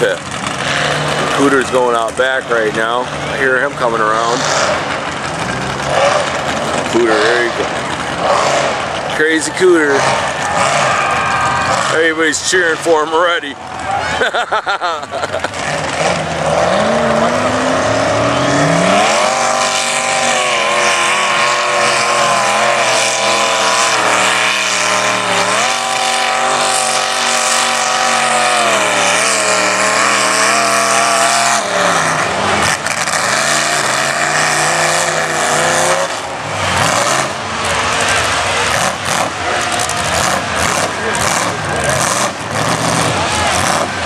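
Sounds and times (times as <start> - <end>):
truck engine revving hard: 0.0 - 44.0.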